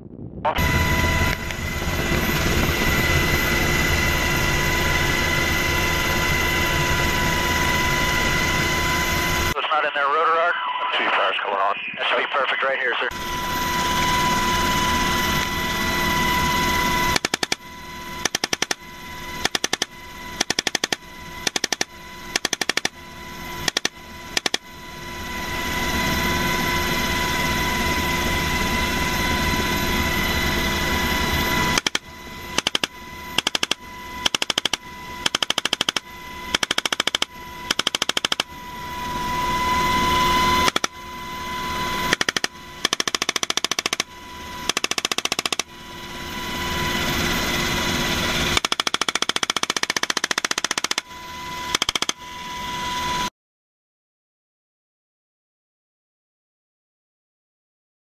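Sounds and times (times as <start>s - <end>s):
helicopter engine and rotor: 0.4s - 53.3s.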